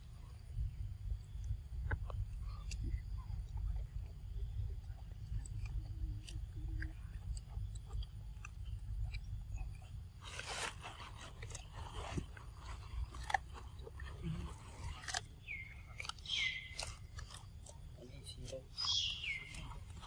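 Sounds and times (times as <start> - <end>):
steady low rumble: 0.0 - 20.0
monkeys crunching corn: 1.2 - 20.0.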